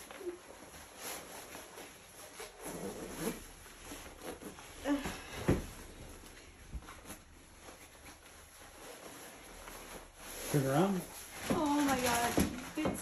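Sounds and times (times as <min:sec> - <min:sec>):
fabric rustling while zipping: 0:00.0 - 0:13.0.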